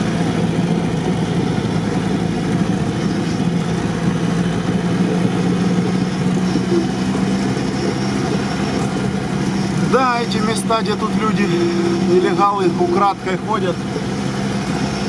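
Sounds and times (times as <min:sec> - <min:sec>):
off-road vehicle engine running: 0:00.0 - 0:15.0
road noise: 0:00.0 - 0:15.0.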